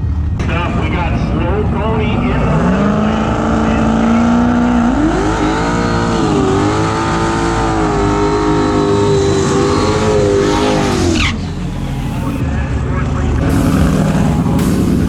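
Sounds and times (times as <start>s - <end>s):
drag race car engine revving: 0.4s - 12.4s, 13.3s - 15.0s.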